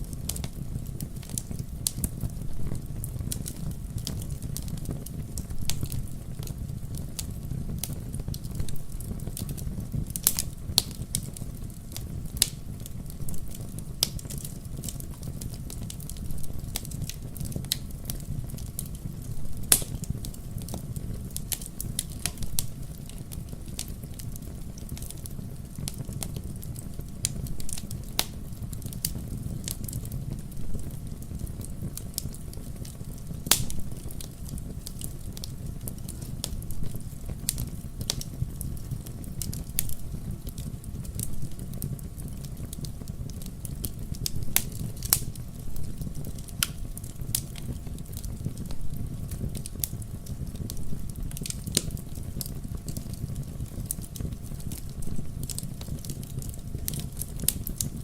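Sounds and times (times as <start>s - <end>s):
low rumble of flames: 0.0s - 58.0s
wood logs crackling and popping: 0.0s - 58.0s.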